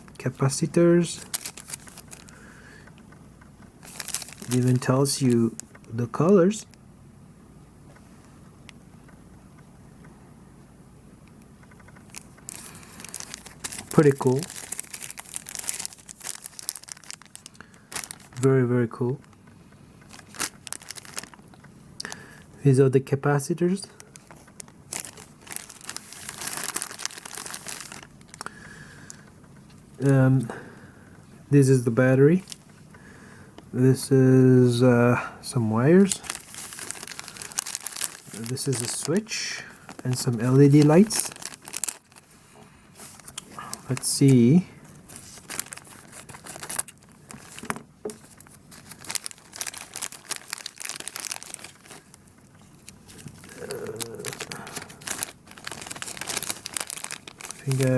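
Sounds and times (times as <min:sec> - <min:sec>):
plastic packaging crinkling: 0:00.0 - 0:06.8, 0:11.6 - 0:22.6, 0:23.2 - 0:30.7, 0:31.6 - 0:34.1, 0:35.4 - 0:57.9.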